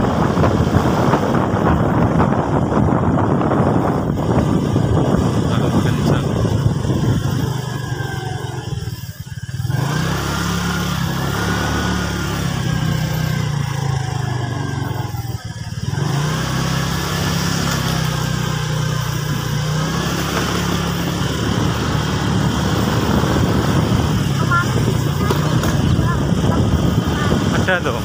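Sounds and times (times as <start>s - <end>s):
small motorcycle engine running: 0.0s - 28.0s.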